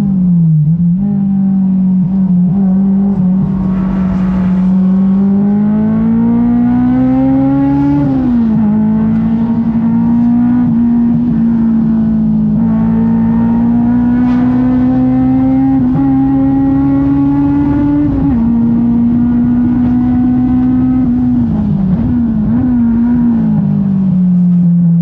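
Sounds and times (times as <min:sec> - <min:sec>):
engine at high revs: 0:00.9 - 0:23.7.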